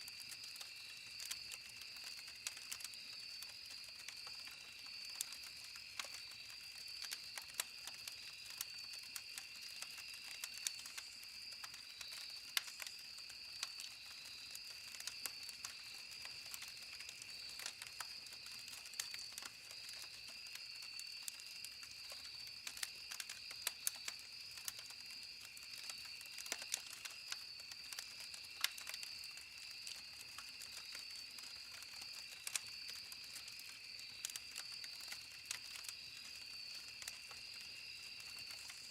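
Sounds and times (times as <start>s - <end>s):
campfire wood crackling: 0.0s - 38.9s
insects chirring: 0.0s - 38.9s.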